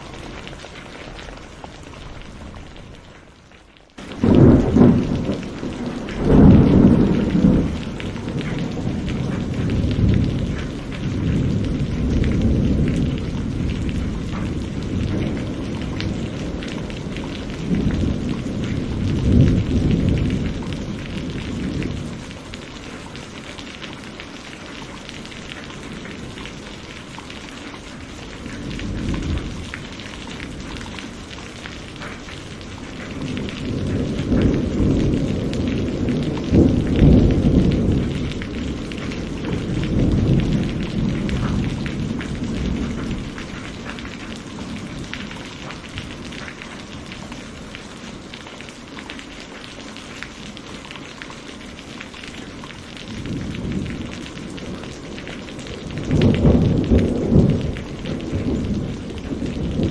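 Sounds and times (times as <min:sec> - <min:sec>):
heavy rain: 0:00.0 - 0:59.9
thunder rumbling: 0:04.0 - 0:48.4, 0:52.6 - 0:59.9.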